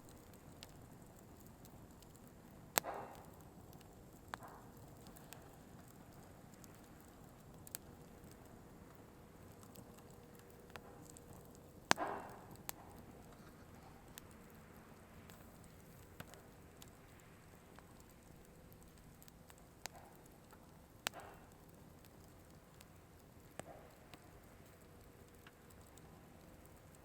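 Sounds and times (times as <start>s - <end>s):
faint steady hiss: 0.0s - 27.0s
firewood crackling and popping: 0.0s - 27.0s.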